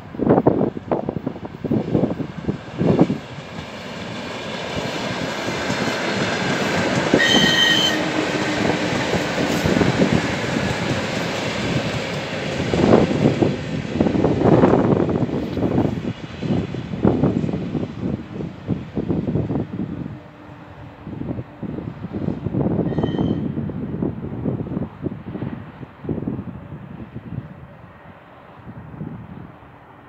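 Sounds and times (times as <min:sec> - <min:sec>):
electric train running past: 0:00.0 - 0:30.0
wind buffeting microphone: 0:00.0 - 0:30.0.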